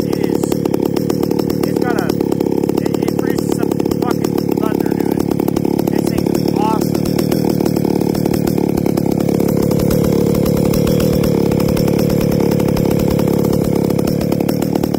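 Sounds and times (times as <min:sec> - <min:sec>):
chainsaw engine running: 0:00.0 - 0:14.9.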